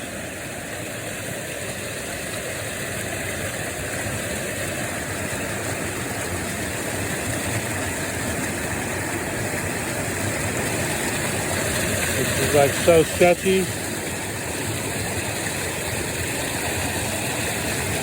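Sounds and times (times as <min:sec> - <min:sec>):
rushing river water: 0:00.0 - 0:18.0
waterfall cascades: 0:00.0 - 0:18.0.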